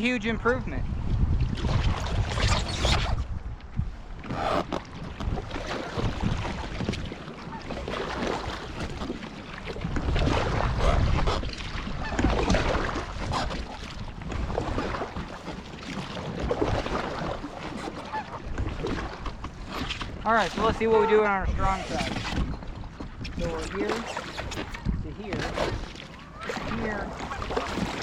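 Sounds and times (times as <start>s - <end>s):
wind buffeting microphone: 0.0s - 7.0s, 9.8s - 17.6s, 18.3s - 28.0s
lake water splashing and lapping: 1.2s - 28.0s.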